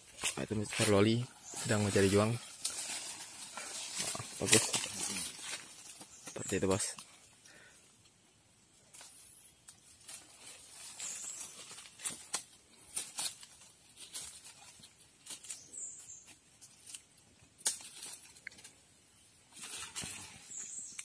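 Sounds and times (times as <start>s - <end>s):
leaves rustling: 0.0s - 7.8s, 8.6s - 21.0s.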